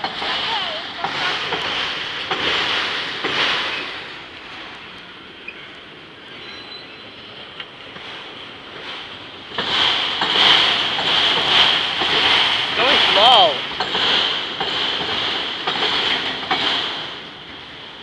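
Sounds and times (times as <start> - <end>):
sharp rail clicks: 0.0 - 6.0, 6.8 - 18.0
freight cars rumbling on rails: 0.0 - 18.0.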